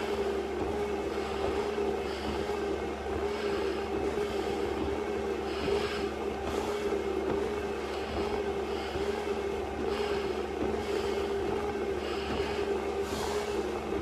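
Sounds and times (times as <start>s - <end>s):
exercise machine humming: 0.0s - 14.0s.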